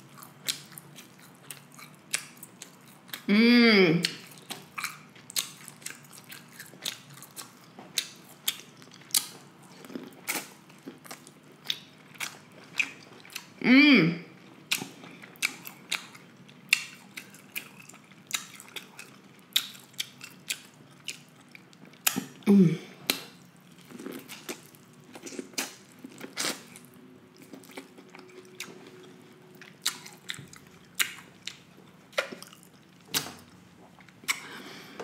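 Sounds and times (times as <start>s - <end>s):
chewing corn on the cob: 0.0s - 3.3s, 4.0s - 13.6s, 14.4s - 22.4s, 23.1s - 34.5s.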